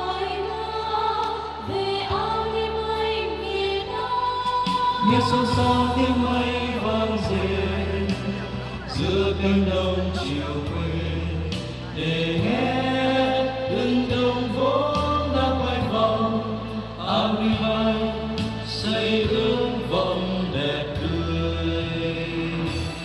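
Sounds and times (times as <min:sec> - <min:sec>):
instrumental backing music: 0:00.0 - 0:23.0
men singing into microphones: 0:00.0 - 0:23.0.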